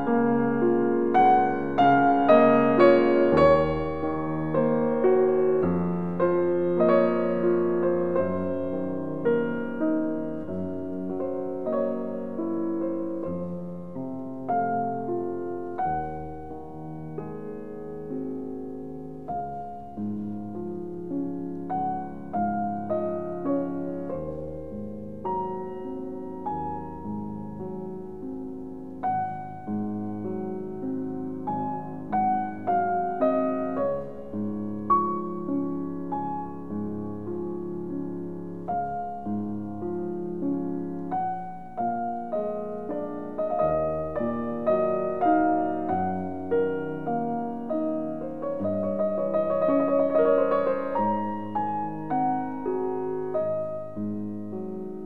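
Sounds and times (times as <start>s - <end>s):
slow solo piano: 0.0s - 55.0s.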